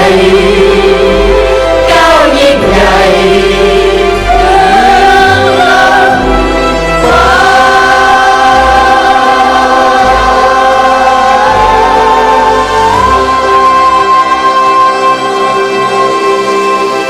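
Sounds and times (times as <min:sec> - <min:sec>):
choir sustained notes: 0:00.0 - 0:17.0.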